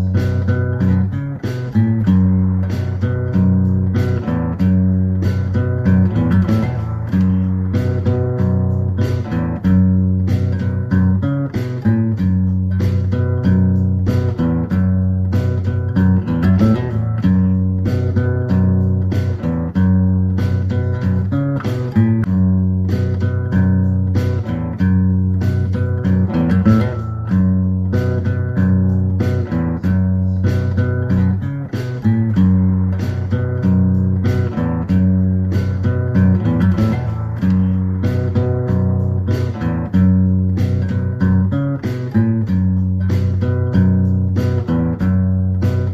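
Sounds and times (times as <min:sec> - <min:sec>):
plucked guitar: 0:00.0 - 0:45.9
repeating bass line: 0:00.0 - 0:45.9.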